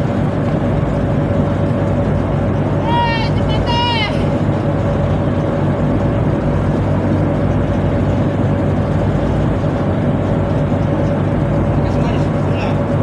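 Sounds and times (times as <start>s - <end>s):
boat engine drone: 0.0s - 13.0s
engine whine: 0.0s - 13.0s.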